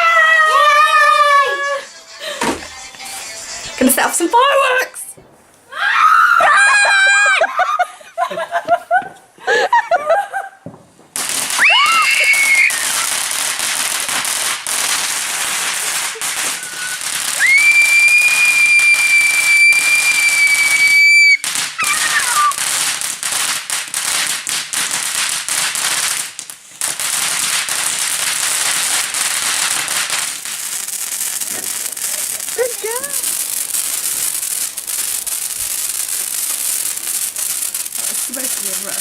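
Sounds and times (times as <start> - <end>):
fireworks whistling: 0.0 - 6.8, 10.6 - 39.0
fireworks crackling: 0.0 - 39.0.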